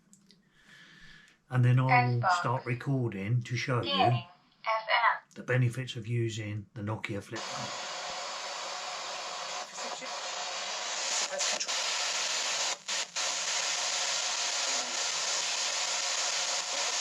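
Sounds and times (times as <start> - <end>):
radio static: 1.6 - 6.0, 6.7 - 17.0.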